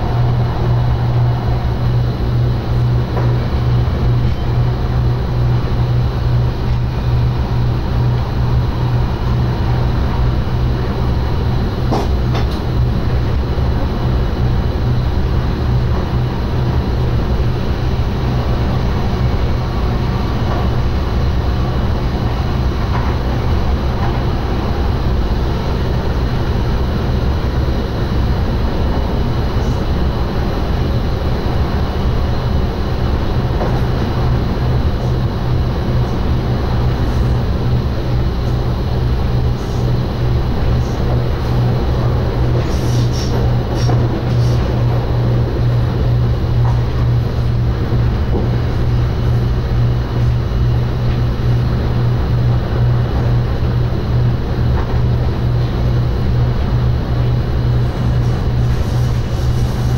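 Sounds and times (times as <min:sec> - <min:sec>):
train low rumble and hum: 0:00.0 - 0:59.9.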